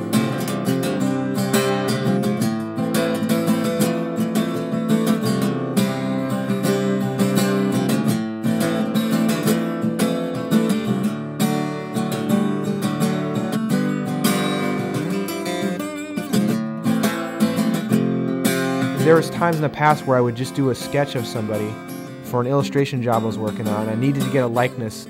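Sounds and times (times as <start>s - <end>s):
guitar strumming: 0.0s - 25.0s.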